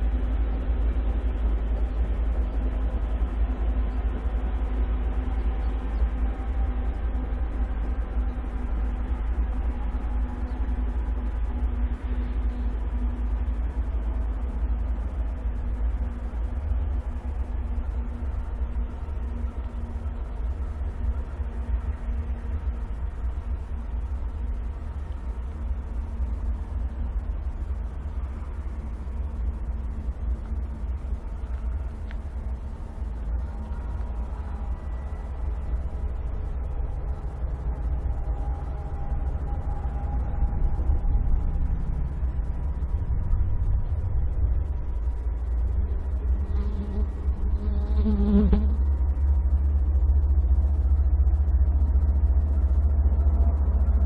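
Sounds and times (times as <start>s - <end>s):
faint steady tone: 0.0s - 54.0s.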